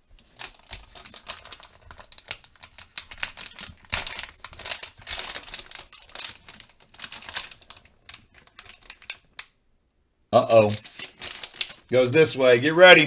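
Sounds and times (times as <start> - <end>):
foil pouch crinkling: 0.0 - 9.5, 10.5 - 12.8.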